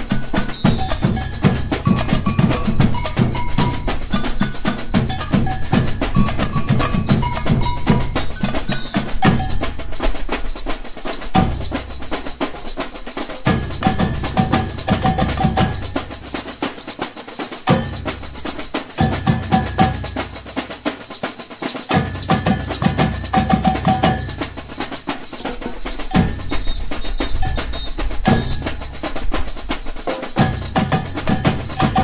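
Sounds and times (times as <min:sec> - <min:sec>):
bass drums: 0:00.0 - 0:10.0, 0:11.3 - 0:12.5, 0:13.4 - 0:16.6, 0:17.7 - 0:20.8, 0:21.9 - 0:32.0
agogo bells: 0:00.0 - 0:32.0
shaker: 0:00.0 - 0:32.0
snare drums: 0:00.0 - 0:32.0
tamborins: 0:00.0 - 0:32.0.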